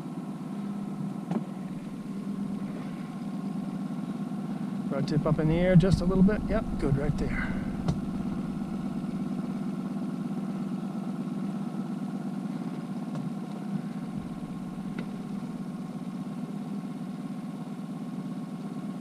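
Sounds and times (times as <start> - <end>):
boat motor humming: 0.4 - 17.3.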